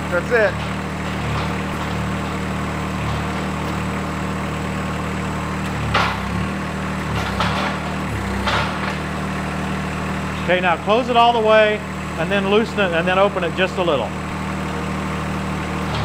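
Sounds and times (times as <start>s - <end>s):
hydraulic grapple clunks: 0.0s - 16.0s
tractor diesel engine running: 0.0s - 16.0s.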